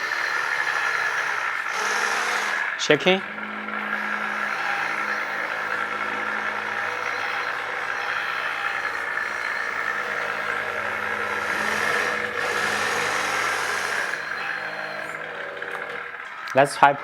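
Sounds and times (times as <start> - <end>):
diesel engine sound effect: 0.0 - 16.5
electric motor whirring and rattling: 0.0 - 16.5.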